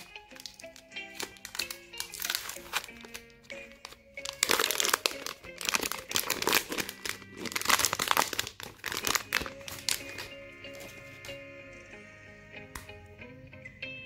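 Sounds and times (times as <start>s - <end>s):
chocolate wrapper crinkling: 0.0s - 11.3s.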